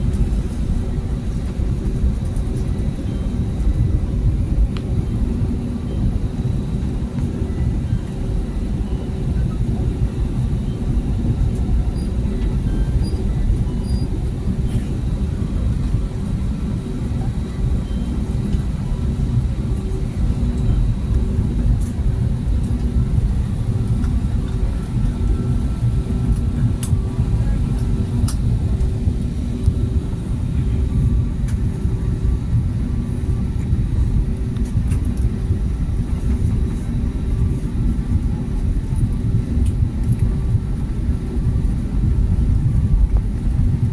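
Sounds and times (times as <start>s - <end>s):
aircraft cabin rumble: 0.0s - 43.9s
steady cabin hum: 0.0s - 43.9s.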